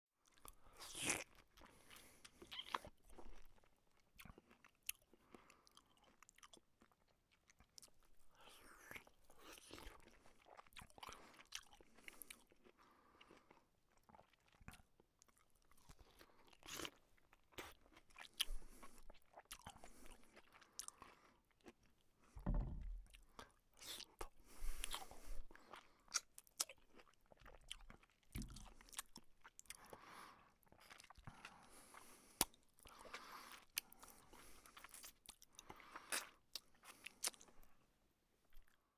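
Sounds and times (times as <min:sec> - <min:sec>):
person crunching and chewing: 0:00.2 - 0:22.0, 0:23.0 - 0:37.8.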